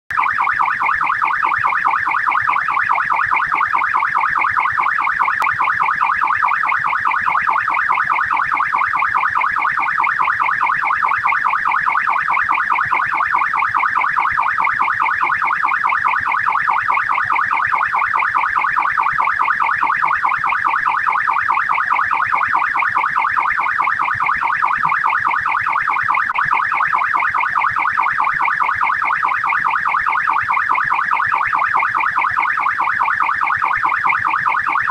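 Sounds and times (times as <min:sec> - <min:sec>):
police siren yelping: 0:00.1 - 0:34.9.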